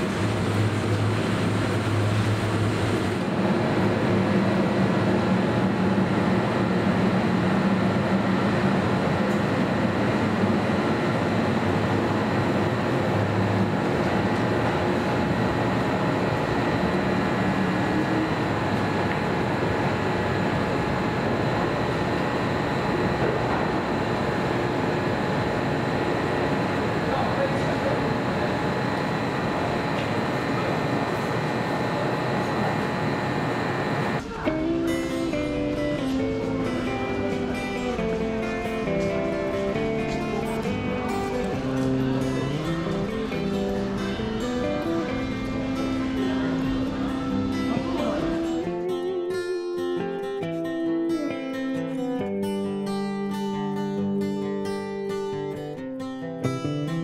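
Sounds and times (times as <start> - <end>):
electric train rumbling: 0.0 - 48.8.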